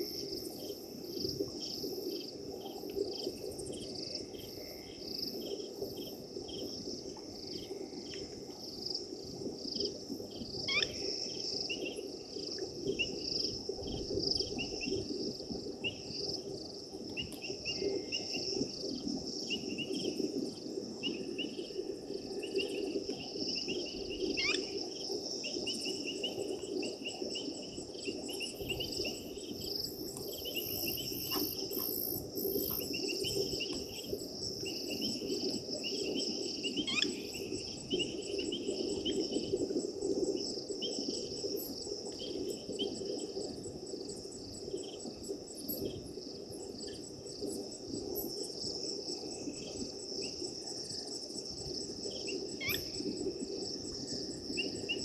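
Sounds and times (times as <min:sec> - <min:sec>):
crickets chirping: 0:00.0 - 0:55.0
insects trilling: 0:00.0 - 0:55.0.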